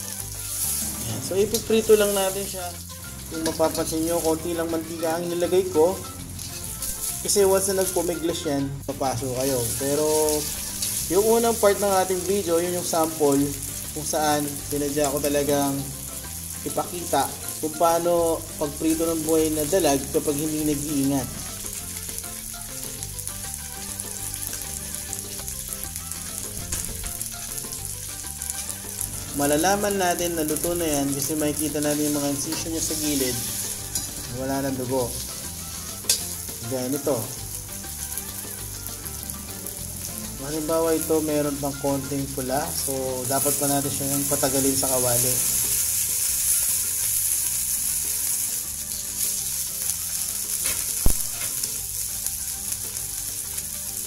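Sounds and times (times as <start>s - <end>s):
fish sizzling in oil: 0.0s - 54.0s.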